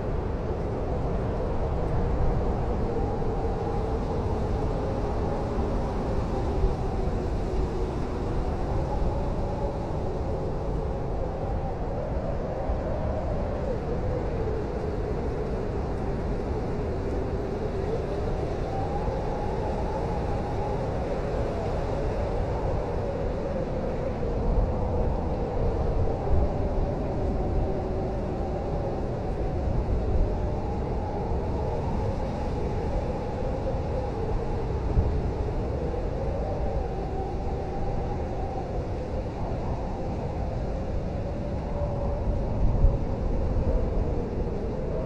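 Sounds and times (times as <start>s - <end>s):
blizzard wind howling: 0.0s - 45.0s.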